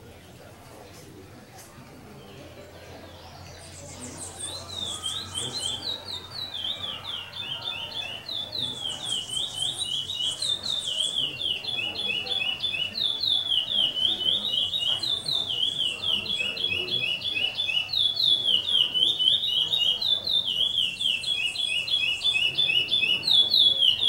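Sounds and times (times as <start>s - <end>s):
songbird singing rapid high notes: 2.2s - 24.0s.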